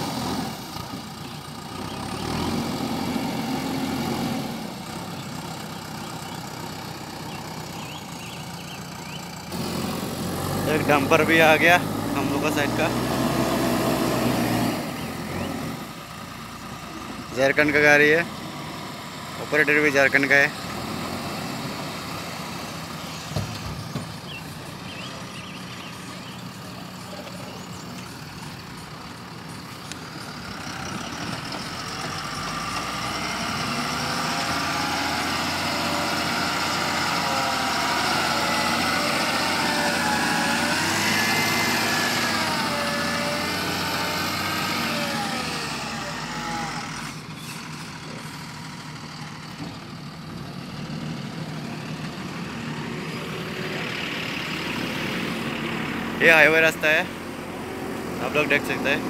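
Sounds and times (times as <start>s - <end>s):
engine whine: 0.0s - 59.0s
truck diesel engine passing: 0.0s - 59.0s.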